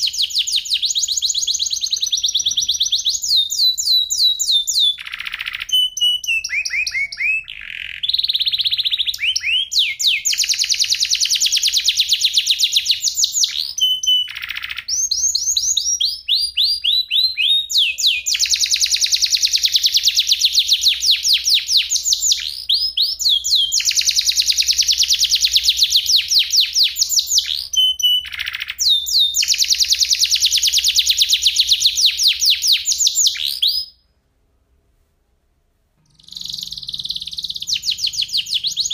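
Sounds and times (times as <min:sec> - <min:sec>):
canary singing trills: 0:00.0 - 0:34.0, 0:36.1 - 0:38.9.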